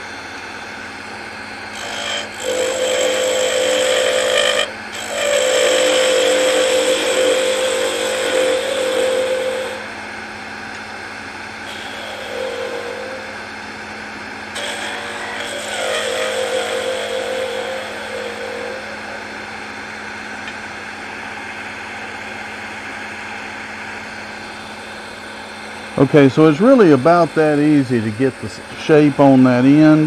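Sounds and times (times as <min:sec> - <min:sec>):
tool cutting spinning wood: 0:00.0 - 0:30.0
wood lathe humming: 0:00.0 - 0:30.0.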